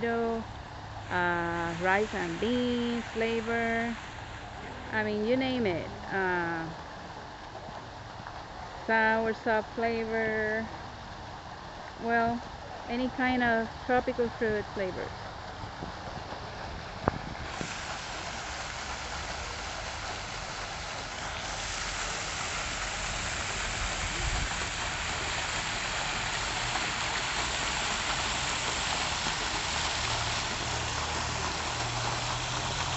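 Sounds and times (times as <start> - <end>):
fountain water splashing: 0.0 - 32.9.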